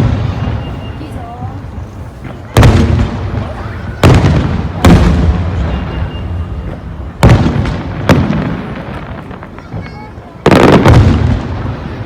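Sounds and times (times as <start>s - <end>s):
firework shells booming: 2.2s - 12.0s.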